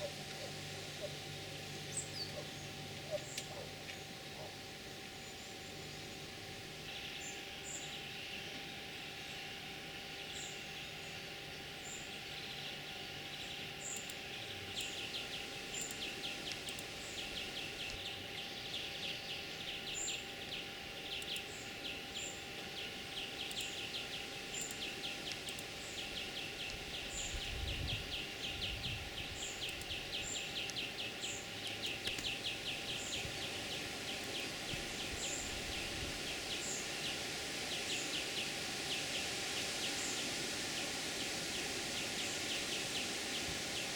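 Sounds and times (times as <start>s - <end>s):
bird pulsing trills: 0.0s - 43.9s.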